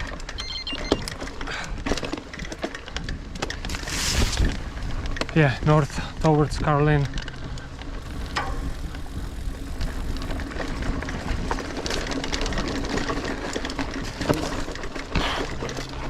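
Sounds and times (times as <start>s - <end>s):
bike clicks and rattles: 0.0s - 16.0s
bike tyres rolling on dirt: 0.0s - 16.0s.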